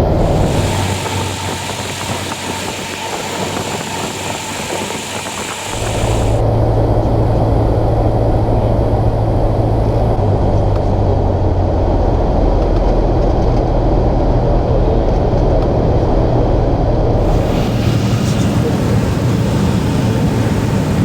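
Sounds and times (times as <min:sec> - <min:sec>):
airplane engine droning in cabin: 0:00.0 - 0:21.0.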